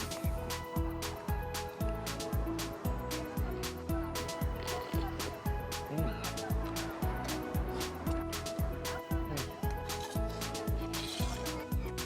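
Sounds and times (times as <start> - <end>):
deep kick drum: 0.1 - 12.0.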